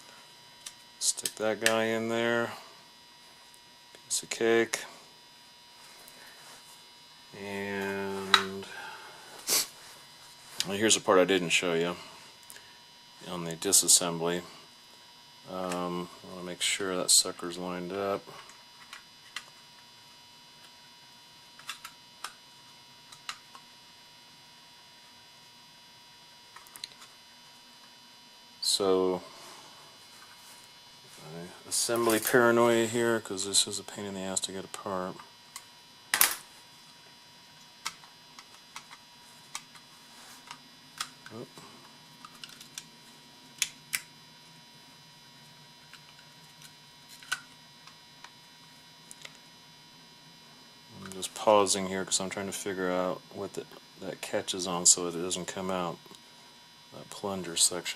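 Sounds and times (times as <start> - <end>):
faint electrical hum: 0.0 - 57.9.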